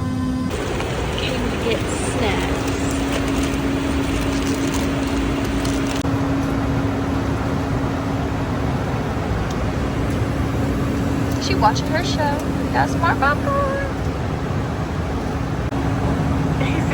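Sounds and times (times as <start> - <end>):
constant low hum: 0.0 - 16.9
jet engine and airflow noise: 0.0 - 16.9.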